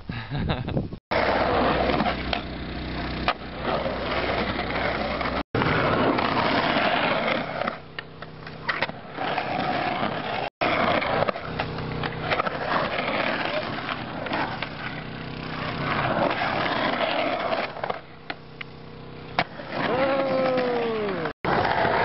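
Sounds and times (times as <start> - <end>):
skateboard wheels rolling on concrete: 1.1 - 22.0.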